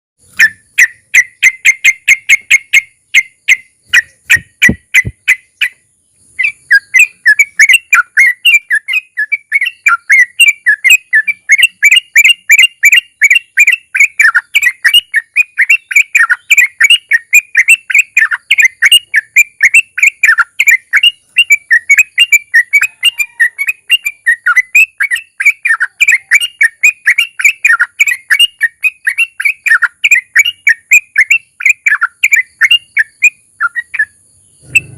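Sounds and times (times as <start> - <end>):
bird singing fast chattering song: 0.2 - 34.9.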